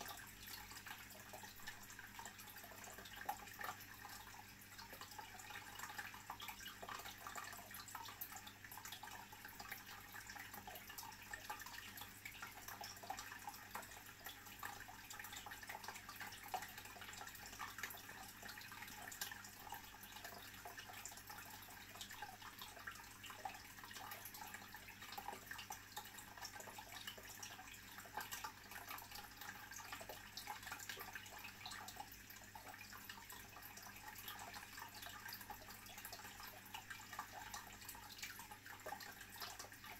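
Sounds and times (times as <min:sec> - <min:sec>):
aquarium water bubbling: 0:00.0 - 0:39.9
low steady hum: 0:00.0 - 0:39.9.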